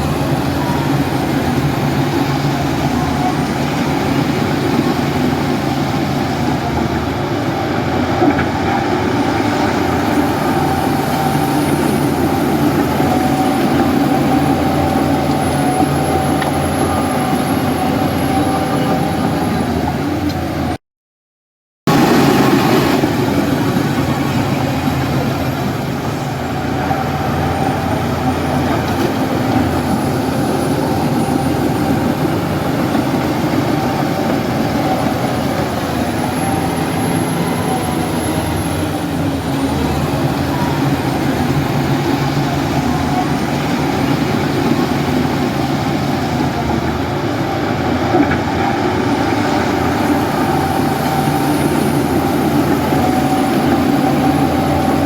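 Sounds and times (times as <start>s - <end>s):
bulldozer diesel engine running: 0.0s - 20.8s, 21.9s - 55.0s.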